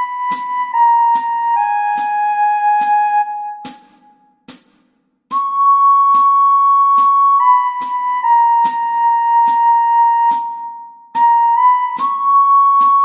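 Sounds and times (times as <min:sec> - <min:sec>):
recorder playing long notes: 0:00.0 - 0:03.9, 0:05.3 - 0:13.0
backing track ticking beat: 0:00.0 - 0:13.0.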